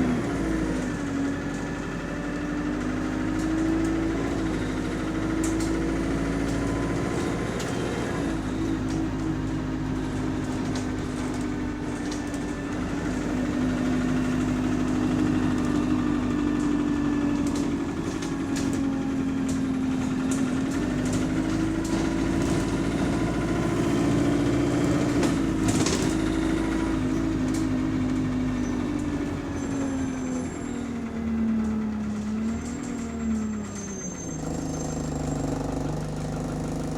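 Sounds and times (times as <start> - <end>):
bus engine droning: 0.0 - 36.9.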